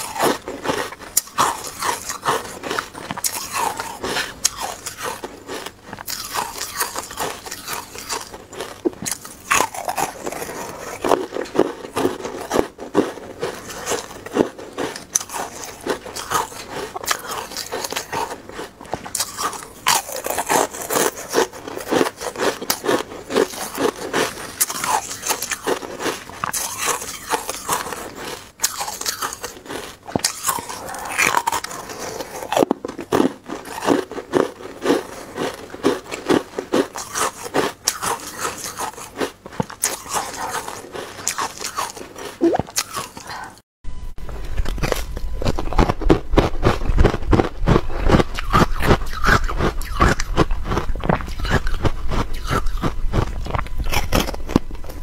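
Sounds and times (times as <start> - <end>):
ice cubes crunching: 0.0 - 43.4, 44.5 - 55.0.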